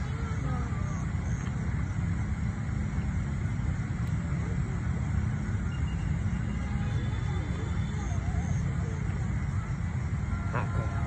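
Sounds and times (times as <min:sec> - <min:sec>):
faint distant voices: 0:00.0 - 0:11.0
low outdoor rumble: 0:00.0 - 0:11.0.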